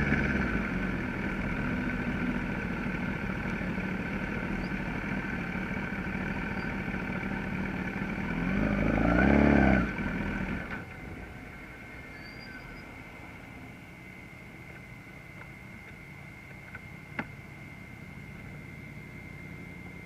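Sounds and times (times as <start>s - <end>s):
motorcycle engine idling and revving: 0.0s - 20.0s
quiet steady background: 0.0s - 20.0s.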